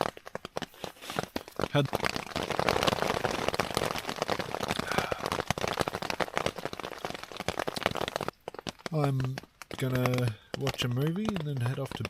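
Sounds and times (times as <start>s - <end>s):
heavy rain on fabric shelter: 0.0s - 12.0s.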